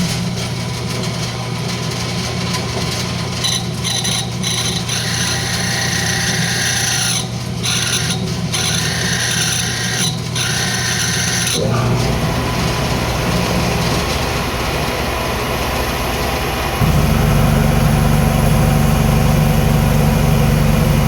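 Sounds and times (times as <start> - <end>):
turning tool cutting wood: 3.4 - 21.0
wood lathe motor hum: 3.5 - 21.0.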